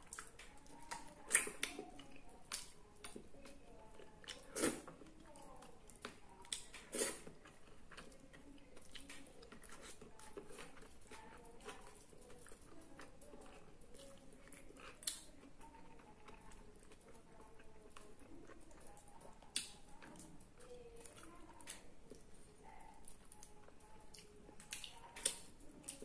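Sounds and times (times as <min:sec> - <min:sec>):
chewing: 0:00.0 - 0:26.0.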